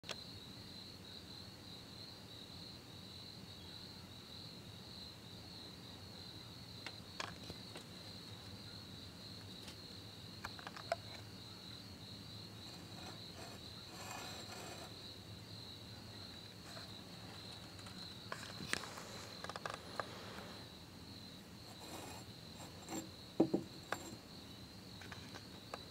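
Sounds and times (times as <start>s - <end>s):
crickets chirping: 0.1s - 25.9s.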